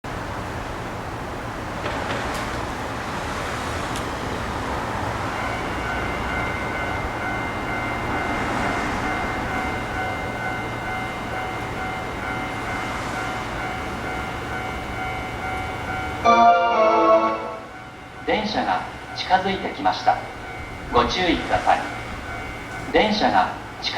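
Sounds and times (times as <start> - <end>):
electric train rumble: 0.0 - 23.9.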